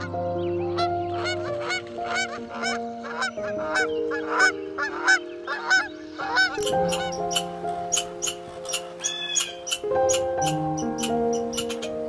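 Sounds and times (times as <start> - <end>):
background music of held notes: 0.0 - 12.0
swans calling: 0.0 - 12.0.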